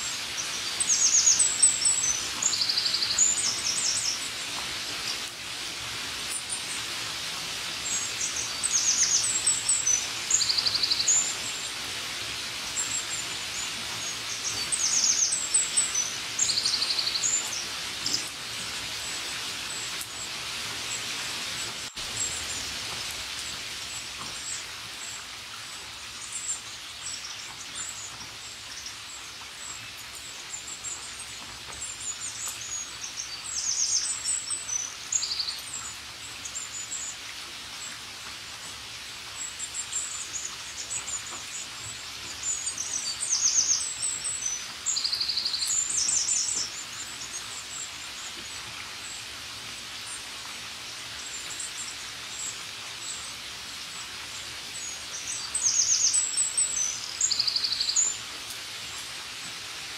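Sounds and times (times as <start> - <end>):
songbirds chirping: 0.0 - 59.9
steady rainfall: 0.0 - 59.9.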